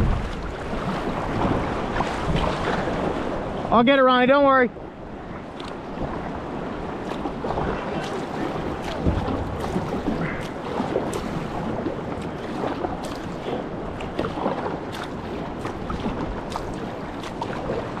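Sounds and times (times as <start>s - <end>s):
wind buffeting microphone: 0.0s - 3.7s, 4.8s - 18.0s
paddle strokes splashing: 0.0s - 18.0s
water lapping: 0.0s - 18.0s.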